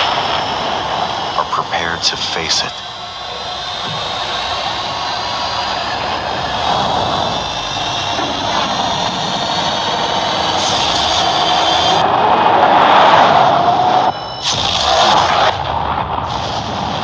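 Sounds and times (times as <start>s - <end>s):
high electric motor whine: 0.0s - 17.0s
wind and tyre rush: 0.0s - 17.0s.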